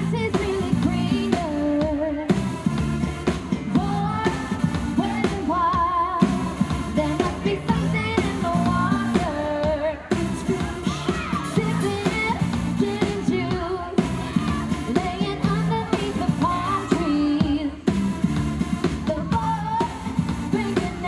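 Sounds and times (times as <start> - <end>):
woman singing: 0.0 - 18.1, 18.8 - 21.0
live pop band playing: 0.0 - 21.0.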